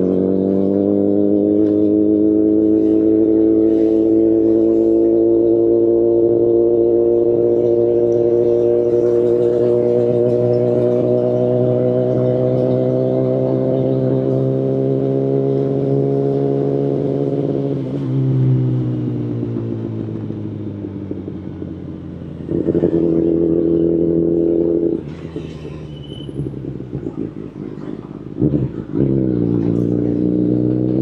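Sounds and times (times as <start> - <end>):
motorcycle engine at speed: 0.0 - 31.0.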